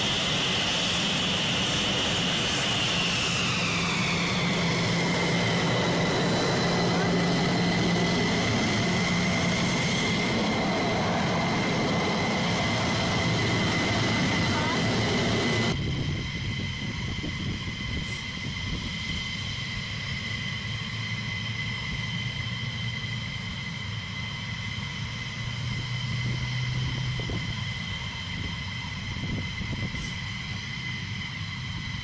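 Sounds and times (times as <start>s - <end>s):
jet engines idling: 0.0s - 32.0s.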